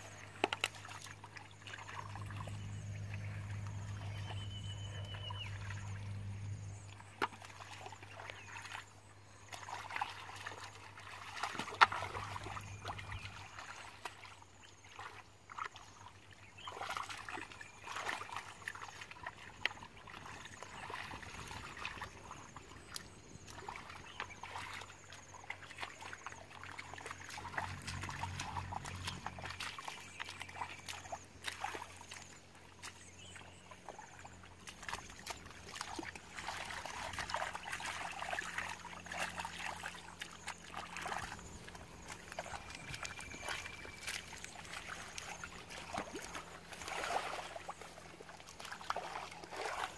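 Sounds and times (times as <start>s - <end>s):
muddy water sloshing and splashing: 0.0s - 49.9s
water trickling and dripping: 0.0s - 49.9s.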